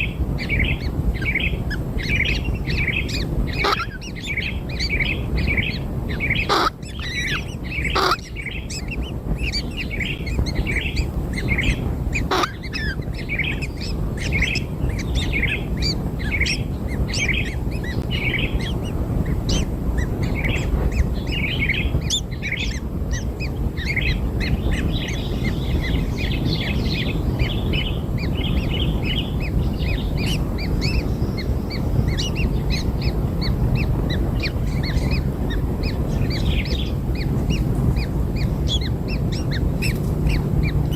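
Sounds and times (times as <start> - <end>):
nestlings chirping: 0.0 - 40.9.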